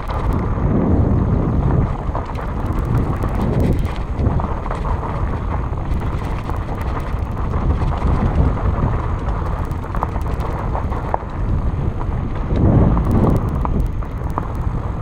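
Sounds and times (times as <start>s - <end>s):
bike clicks and rattles: 0.0s - 0.8s, 1.4s - 15.0s
wind buffeting microphone: 0.0s - 15.0s.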